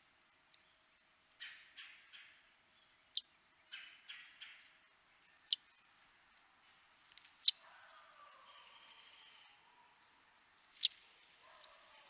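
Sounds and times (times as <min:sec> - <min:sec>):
soft bird chirps: 0:00.5 - 0:12.0.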